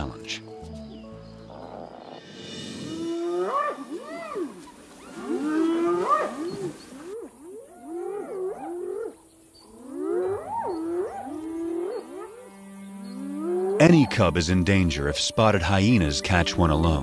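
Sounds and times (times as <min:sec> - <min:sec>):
animals giving wavering calls: 0:01.5 - 0:15.2.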